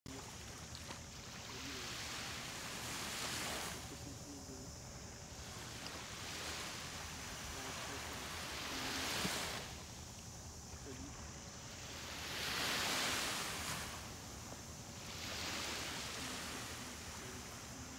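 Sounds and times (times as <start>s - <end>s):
small waves washing on beach: 0.1s - 17.9s.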